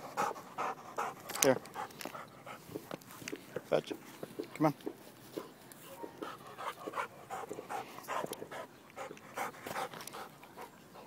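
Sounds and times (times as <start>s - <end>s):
dog panting: 0.0s - 3.3s, 5.3s - 11.0s.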